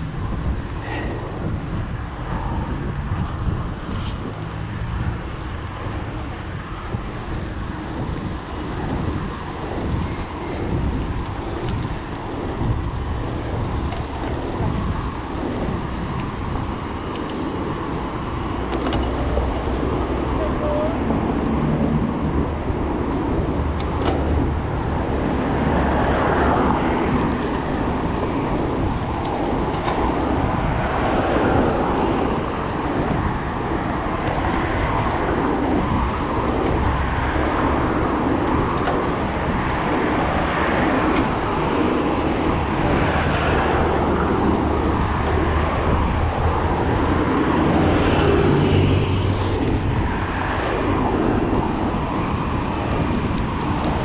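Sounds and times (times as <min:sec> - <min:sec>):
bicycle riding noise: 0:00.0 - 0:54.0
street traffic: 0:00.0 - 0:54.0.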